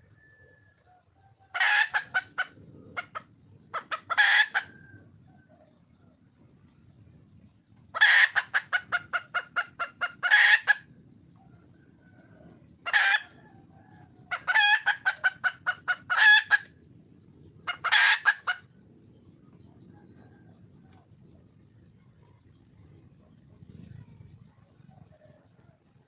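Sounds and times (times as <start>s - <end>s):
hen clucking and calling: 0.0s - 26.0s.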